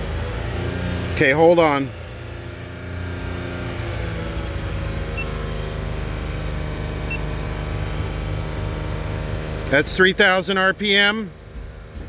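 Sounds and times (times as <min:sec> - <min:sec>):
car engine running at raised revs: 0:00.0 - 0:12.0.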